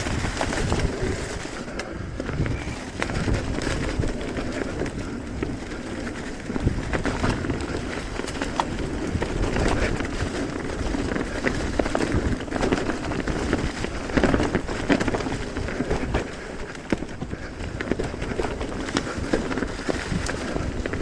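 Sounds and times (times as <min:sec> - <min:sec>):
bike knocks and rattles: 0:00.0 - 0:21.0
tyre rumble on dirt: 0:00.0 - 0:21.0.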